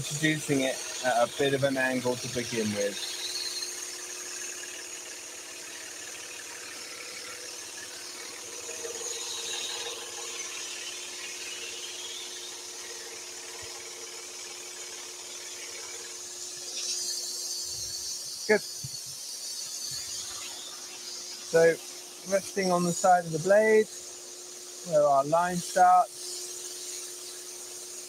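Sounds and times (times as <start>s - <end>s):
scroll saw cutting wood: 0.0s - 28.0s.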